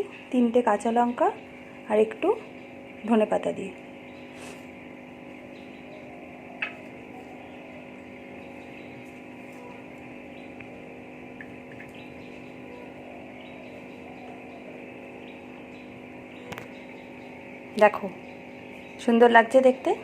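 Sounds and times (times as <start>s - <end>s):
appliance motor hum: 0.0s - 20.0s.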